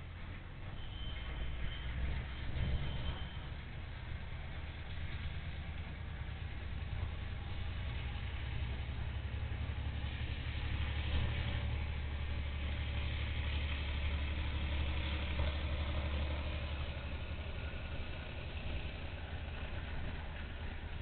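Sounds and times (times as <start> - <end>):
freight locomotive rumbling: 0.0 - 21.0.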